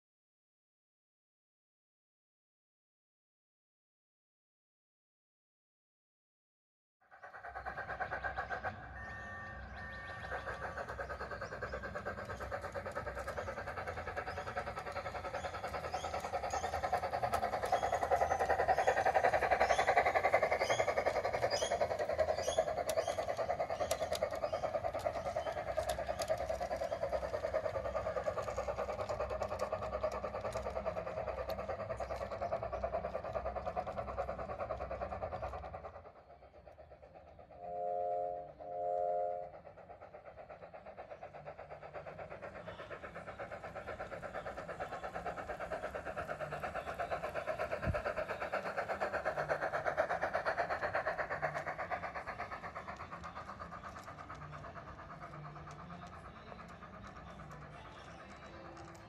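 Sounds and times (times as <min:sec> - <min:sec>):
model train running on track: 0:07.0 - 0:59.0.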